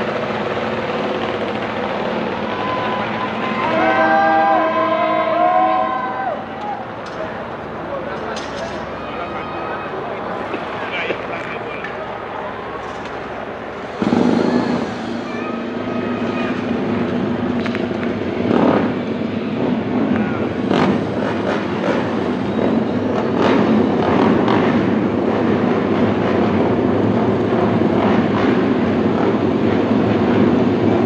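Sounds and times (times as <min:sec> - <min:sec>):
racing motorcycle engines revving: 0:00.0 - 0:31.0.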